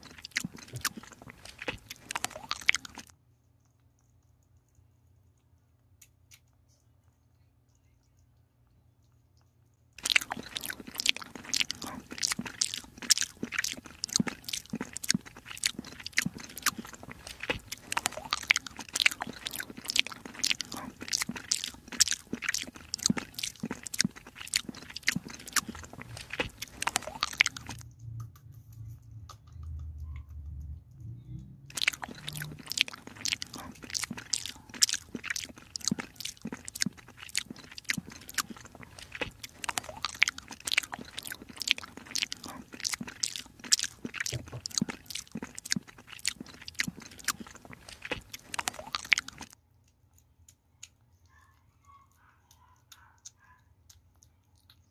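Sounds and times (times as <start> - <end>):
kitten chewing wet food: 0.0 - 54.9.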